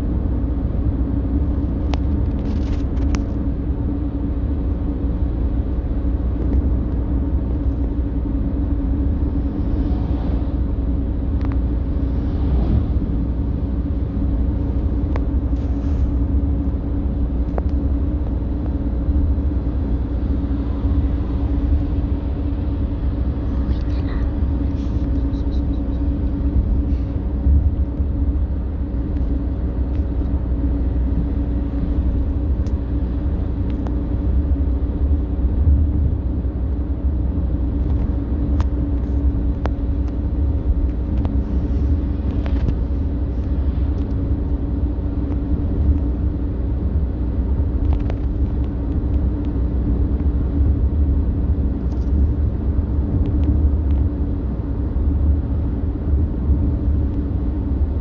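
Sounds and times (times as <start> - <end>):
car cabin engine and tyre rumble: 0.0 - 58.0
even drone: 6.9 - 58.0.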